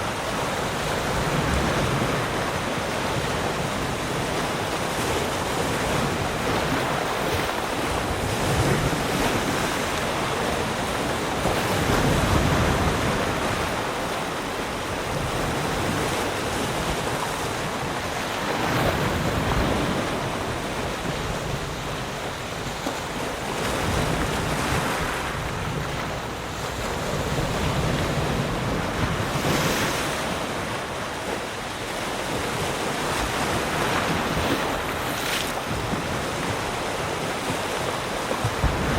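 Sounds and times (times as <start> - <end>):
ocean waves lapping around rocks: 0.0 - 38.9
wind on microphone: 0.0 - 38.9.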